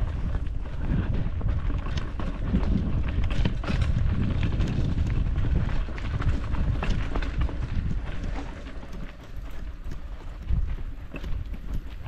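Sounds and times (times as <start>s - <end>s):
bicycle rattling on rough trail: 0.0s - 12.0s.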